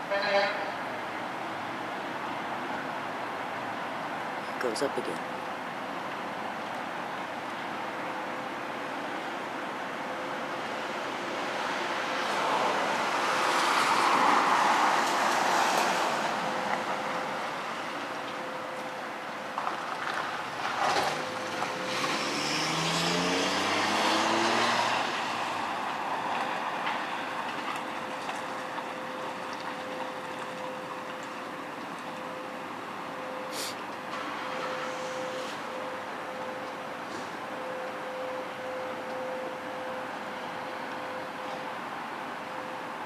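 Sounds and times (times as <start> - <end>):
rushing outdoor drone: 0.7 - 43.0.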